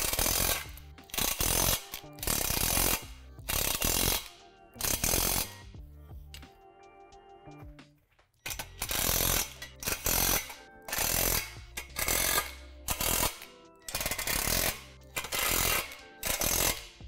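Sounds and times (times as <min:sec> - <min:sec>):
impact driver bursts: 0:00.0 - 0:05.6, 0:08.5 - 0:17.0.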